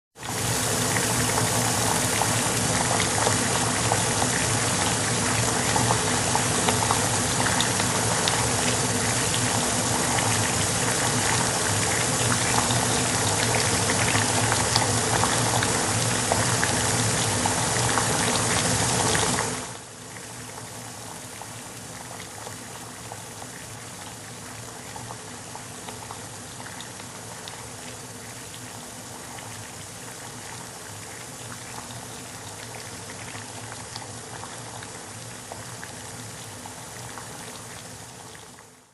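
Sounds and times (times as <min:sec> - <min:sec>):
water boiling: 0:00.2 - 0:38.9.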